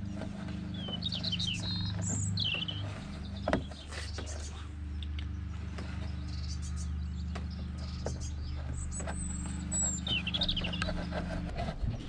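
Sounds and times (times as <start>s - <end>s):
bird chirping: 0.0s - 12.0s
clicks of wood shavings: 0.0s - 12.0s
low mechanical hum: 0.0s - 12.0s.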